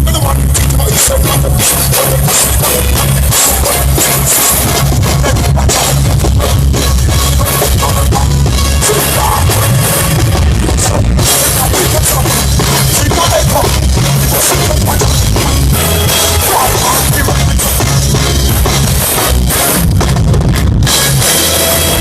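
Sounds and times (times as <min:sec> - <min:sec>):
drums: 0:00.0 - 0:22.0
heavy bass: 0:00.0 - 0:22.0
live concert music: 0:00.0 - 0:22.0.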